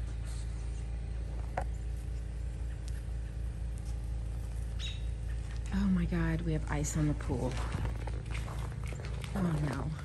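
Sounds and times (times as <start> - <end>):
generator engine humming: 0.0 - 10.0.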